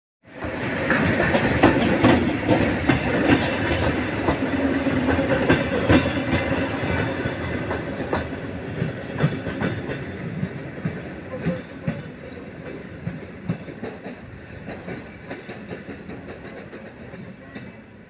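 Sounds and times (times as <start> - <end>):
train rumble: 0.3 - 18.0
train wheels clicking over rail joints: 0.3 - 18.0.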